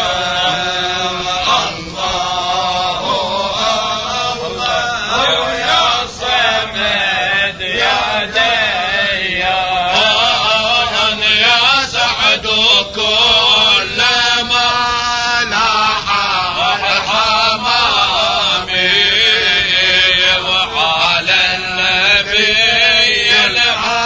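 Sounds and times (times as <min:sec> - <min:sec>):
man chanting: 0:00.0 - 0:24.0.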